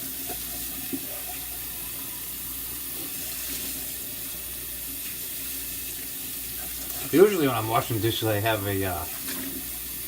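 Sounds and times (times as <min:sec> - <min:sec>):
faucet running into sink: 0:00.0 - 0:10.0.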